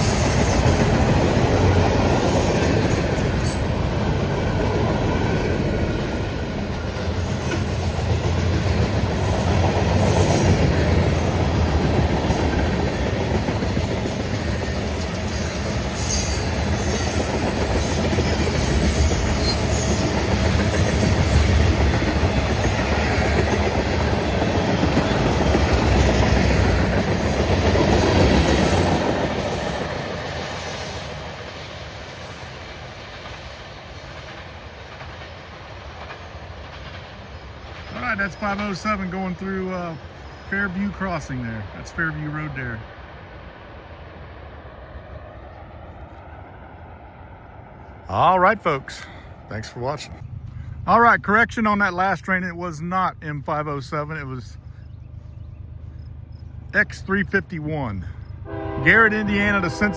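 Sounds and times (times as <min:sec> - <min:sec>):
freight train cars rolling past: 0:00.0 - 0:59.9.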